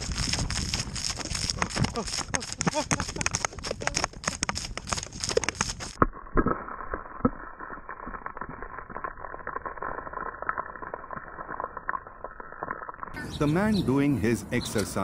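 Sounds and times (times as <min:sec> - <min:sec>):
thin ice cracking under boots: 0:00.0 - 0:13.2.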